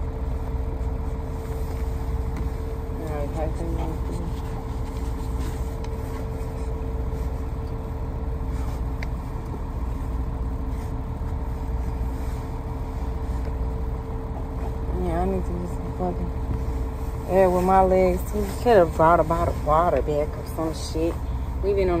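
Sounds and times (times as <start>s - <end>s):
truck engine hum inside cab: 0.0s - 22.0s.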